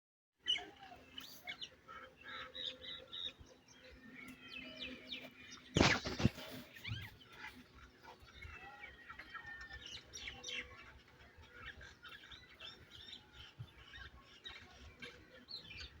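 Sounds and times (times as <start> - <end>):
faint birdsong chirps: 0.4 - 16.0.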